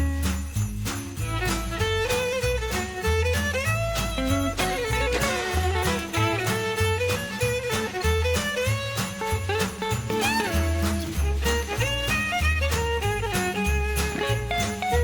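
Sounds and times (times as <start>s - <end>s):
upbeat instrumental music: 0.0s - 15.0s.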